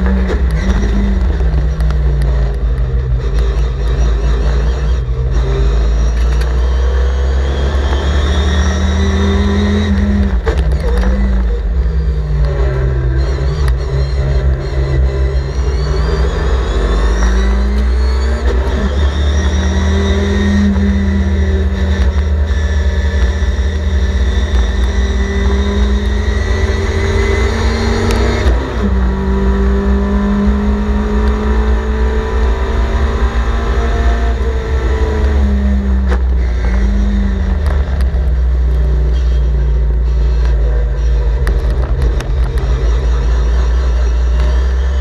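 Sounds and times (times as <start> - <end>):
race car engine at high revs: 0.0 - 45.0.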